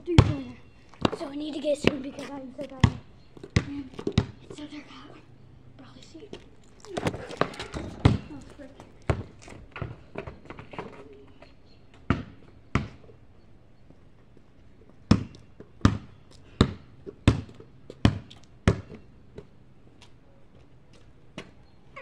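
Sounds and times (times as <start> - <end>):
basketball bouncing on pavement: 0.0 - 4.9, 6.2 - 13.2, 13.9 - 20.1, 20.9 - 21.6.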